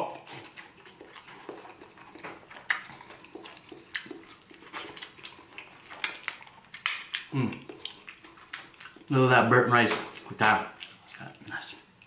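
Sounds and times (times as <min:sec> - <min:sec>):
person chewing: 0:00.1 - 0:09.2, 0:09.8 - 0:12.0.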